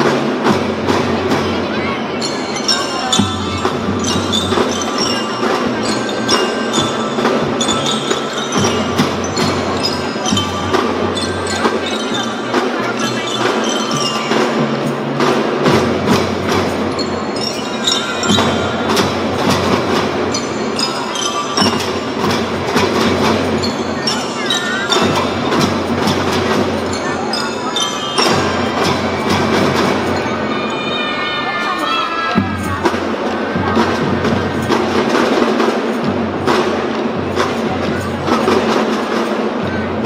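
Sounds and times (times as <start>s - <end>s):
percussion strikes: 0.0s - 40.0s.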